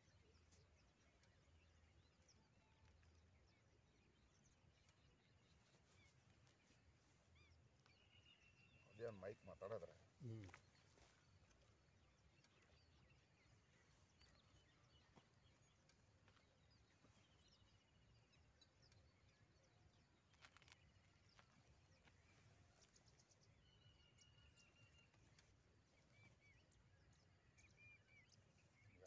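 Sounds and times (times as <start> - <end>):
distant bird calls: 0.0 - 29.0.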